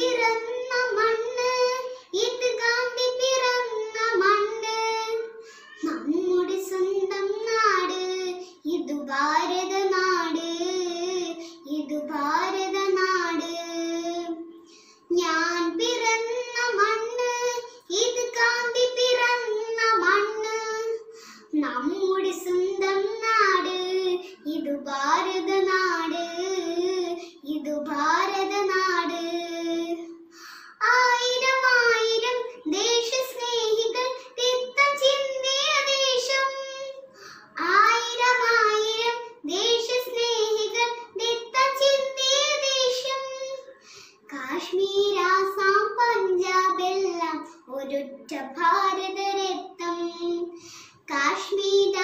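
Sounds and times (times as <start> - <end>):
girl singing unaccompanied: 0.0 - 52.0.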